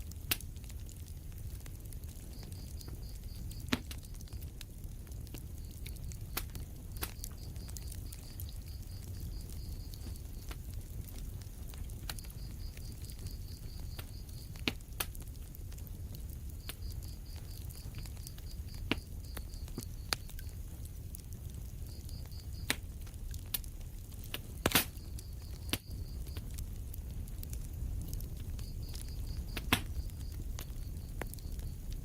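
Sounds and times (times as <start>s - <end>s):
fire flames rumbling: 0.0s - 32.0s
wood fire crackling and popping: 0.0s - 32.0s.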